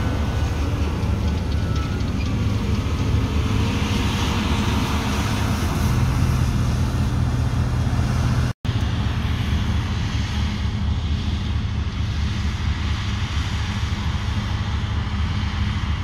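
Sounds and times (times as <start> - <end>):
combine harvester mechanical rush: 0.0 - 16.0
tractor diesel engine drone: 0.0 - 16.0.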